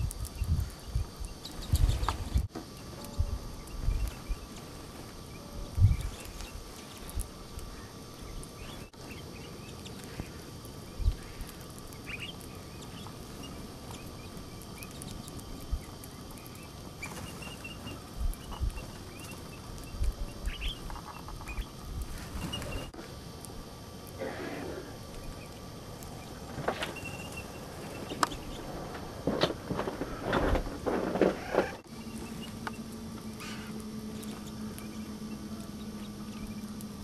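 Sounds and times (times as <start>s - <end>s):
birds chirping: 0.0s - 23.0s, 24.0s - 37.0s.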